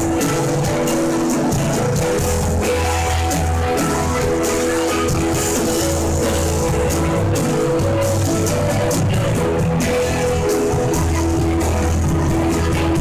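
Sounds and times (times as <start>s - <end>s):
bass notes: 0.0s - 13.0s
drum kit with cymbals: 0.0s - 13.0s
electric guitar: 0.0s - 13.0s.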